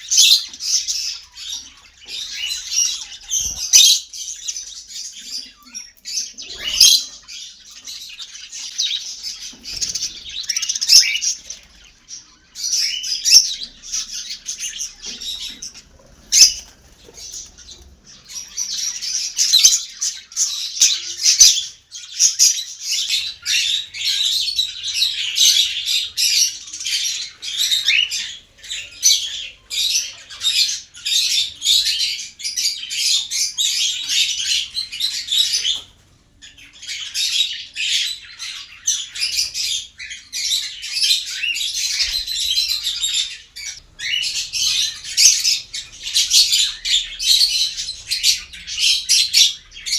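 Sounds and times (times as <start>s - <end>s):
caged birds chirping: 0.0s - 49.9s.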